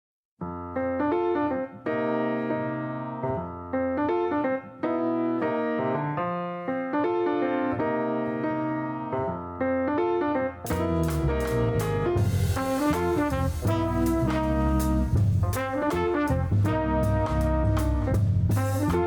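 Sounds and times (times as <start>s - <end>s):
piano-led keyboard tune: 0.4s - 19.0s.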